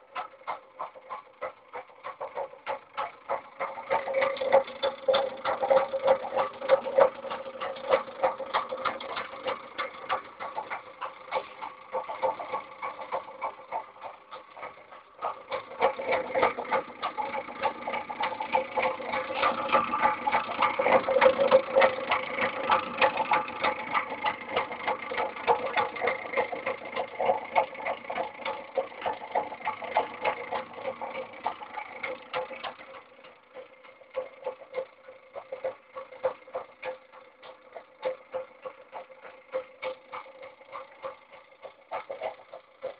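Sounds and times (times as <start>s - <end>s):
fast stream of clicks: 0.0s - 42.9s.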